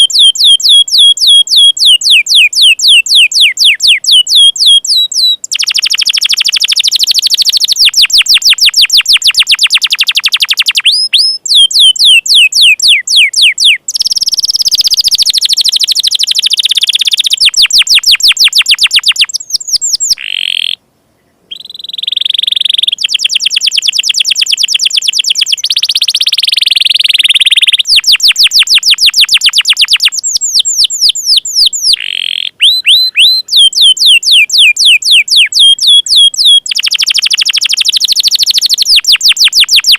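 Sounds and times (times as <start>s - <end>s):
canary singing rapid trills: 0.0s - 20.8s, 21.5s - 39.9s.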